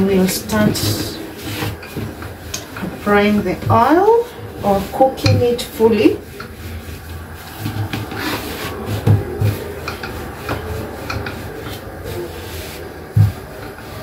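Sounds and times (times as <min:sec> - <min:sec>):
dough rolling and scraping: 0:00.0 - 0:14.0.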